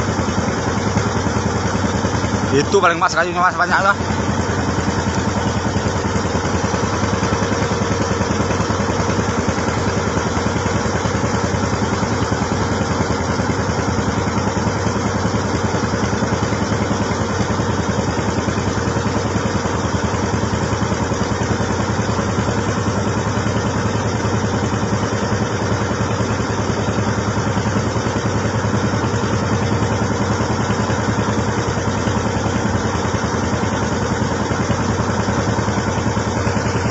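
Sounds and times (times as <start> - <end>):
motorboat engine running: 0.0 - 36.9.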